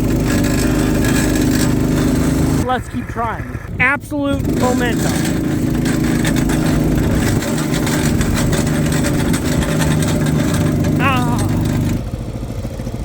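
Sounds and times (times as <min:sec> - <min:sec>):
vehicle engine running hard: 0:00.0 - 0:13.0.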